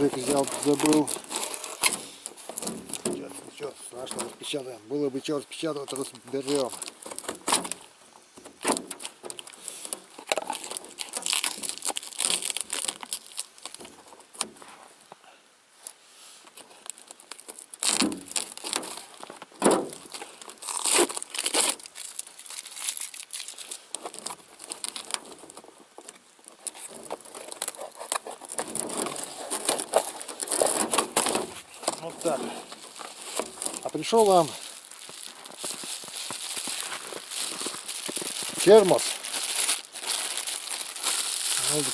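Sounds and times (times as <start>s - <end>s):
cardboard and tape ripping: 0.0s - 4.4s, 5.9s - 7.9s, 8.5s - 14.5s, 16.9s - 41.9s.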